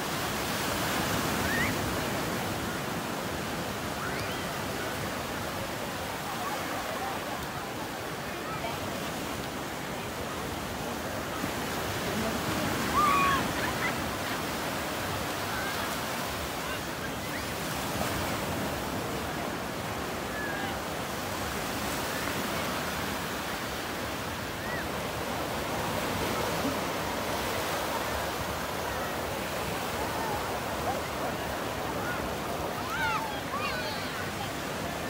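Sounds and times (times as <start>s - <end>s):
surf breaking on beach: 0.0s - 35.0s
faint voices: 3.6s - 35.0s.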